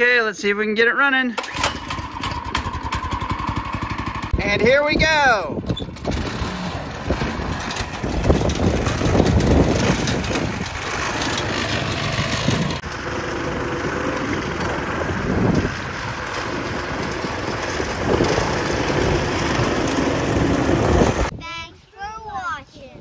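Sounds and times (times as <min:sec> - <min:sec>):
small engine running on go-kart: 0:01.4 - 0:04.7, 0:05.6 - 0:21.3.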